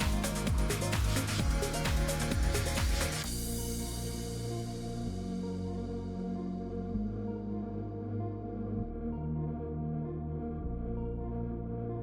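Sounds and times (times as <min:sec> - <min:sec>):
ambient synth chords: 0:00.0 - 0:12.0
low bass: 0:00.0 - 0:12.0.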